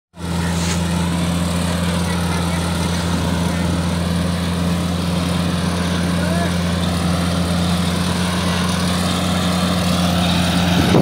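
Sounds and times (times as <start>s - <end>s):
harvester engine droning: 0.2s - 11.0s.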